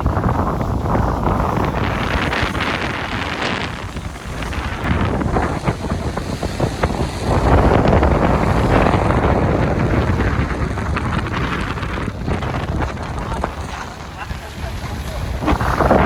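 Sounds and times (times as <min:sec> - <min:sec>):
boat running noise: 0:00.0 - 0:16.0
wind buffeting microphone: 0:00.0 - 0:16.0.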